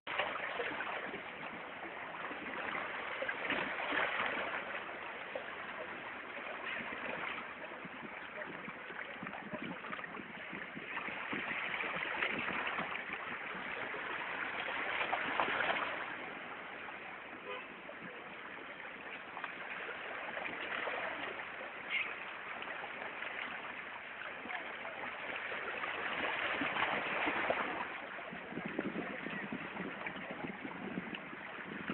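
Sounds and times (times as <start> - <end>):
waves washing in: 0.1 - 31.9.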